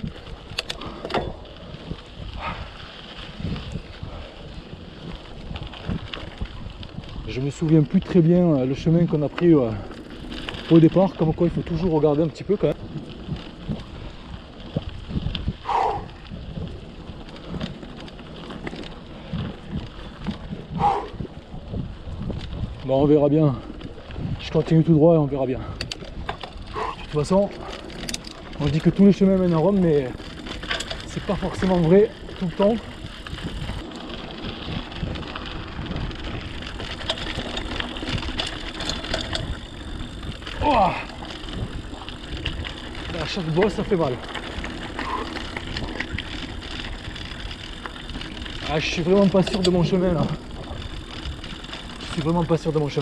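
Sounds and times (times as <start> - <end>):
bike frame rattling: 0.0 - 53.0
tyres crunching on gravel: 0.0 - 53.0
wind rumble on microphone: 0.0 - 53.0.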